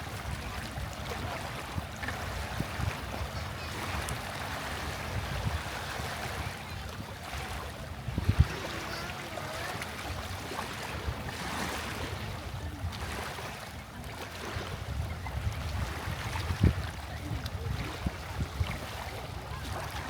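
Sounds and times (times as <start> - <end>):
seawater washing over shore: 0.0 - 20.0
wind on microphone: 0.0 - 20.0.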